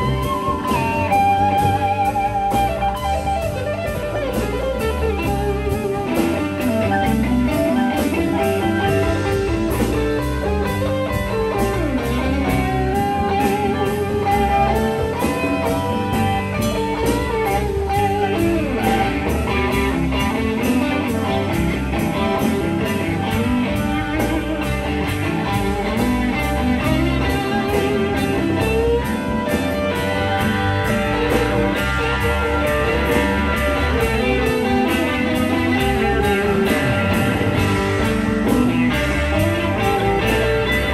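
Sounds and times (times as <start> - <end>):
bass and drum groove: 0.0 - 40.9
electric guitar bending notes: 0.0 - 40.9.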